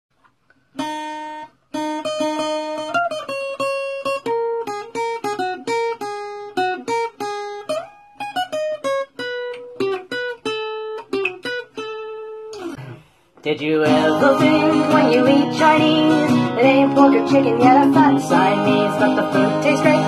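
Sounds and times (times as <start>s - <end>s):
acoustic guitar picked melody: 0.2s - 20.0s.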